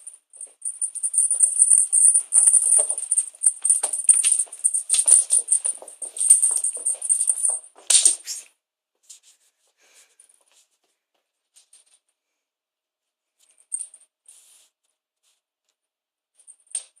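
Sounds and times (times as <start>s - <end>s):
faint rustles and scratches: 0.1s - 12.1s, 13.4s - 15.4s.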